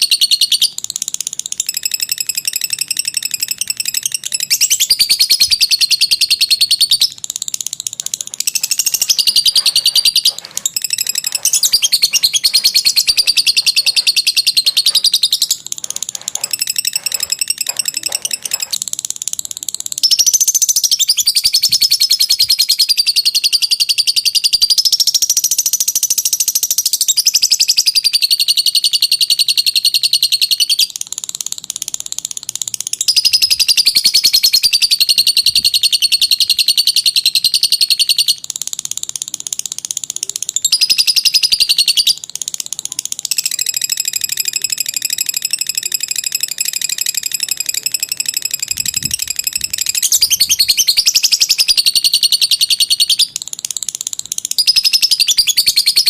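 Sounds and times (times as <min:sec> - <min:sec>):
bird chattering trill: 0:00.0 - 0:56.0.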